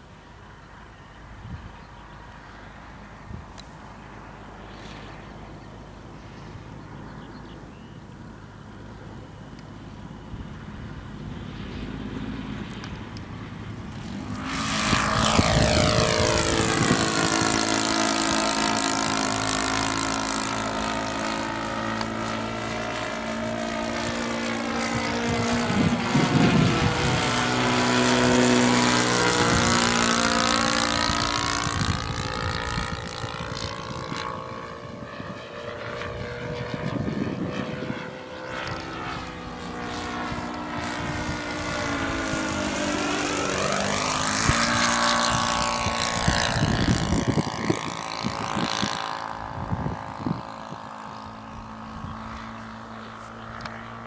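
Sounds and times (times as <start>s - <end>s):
propeller airplane flying by: 0.0s - 54.0s.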